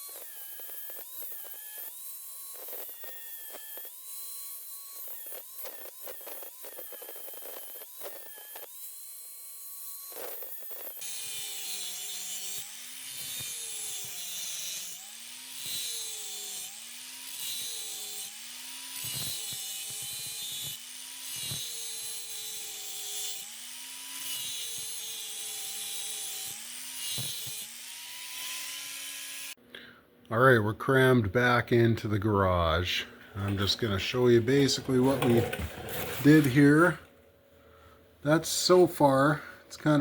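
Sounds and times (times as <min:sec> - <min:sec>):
electric grinder grinding metal: 0:00.0 - 0:29.6, 0:33.4 - 0:37.0.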